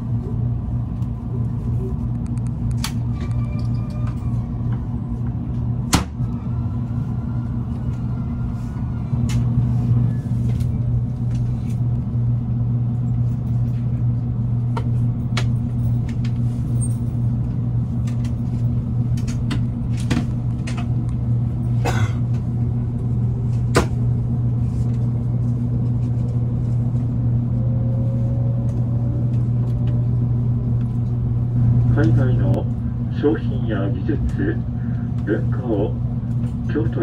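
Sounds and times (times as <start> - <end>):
train low hum: 0.0 - 37.0.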